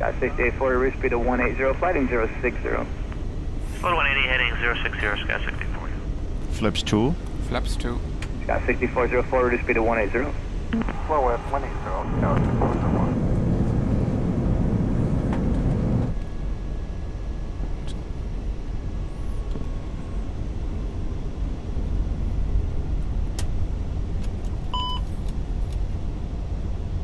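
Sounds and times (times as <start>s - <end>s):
aircraft cockpit rushing noise: 0.0s - 26.9s.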